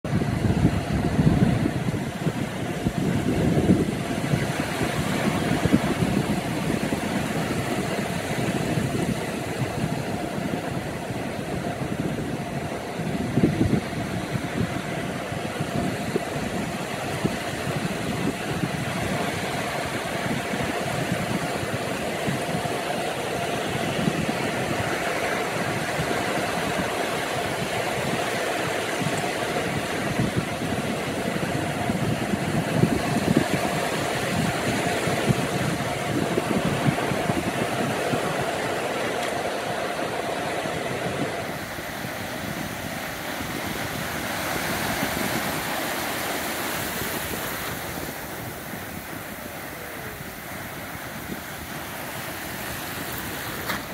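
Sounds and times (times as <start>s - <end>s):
waves breaking on beach: 0.1s - 53.9s.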